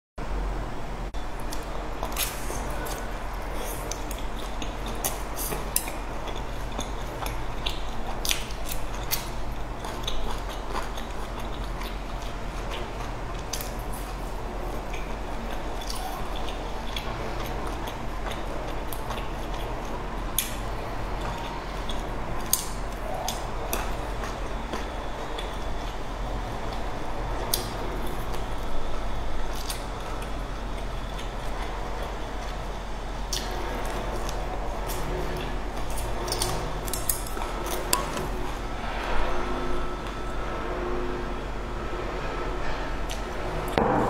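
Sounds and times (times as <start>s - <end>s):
wet chewing and smacking: 1.4s - 38.6s.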